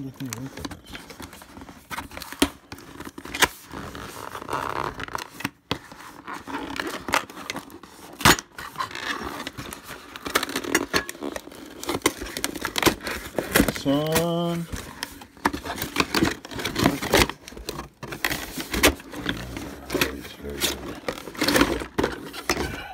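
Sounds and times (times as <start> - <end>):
cardboard scraping and rustling: 0.2 - 22.8.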